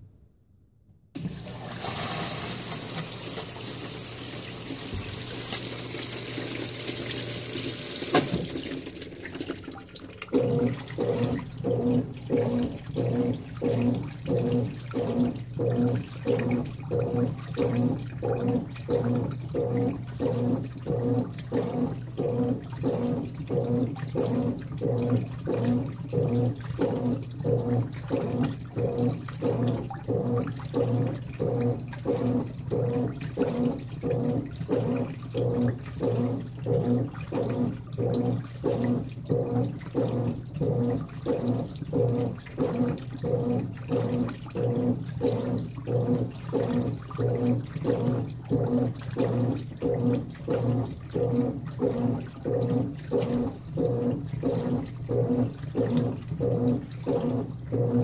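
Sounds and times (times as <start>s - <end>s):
washing machine agitating: 1.2s - 58.0s
water pouring into washer tub: 1.2s - 58.0s.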